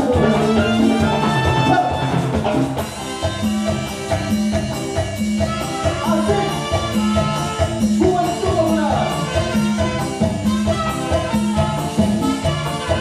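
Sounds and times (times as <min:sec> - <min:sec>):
percussion beat: 0:00.0 - 0:13.0
salsa band playing: 0:00.0 - 0:13.0
trumpets: 0:00.0 - 0:13.0.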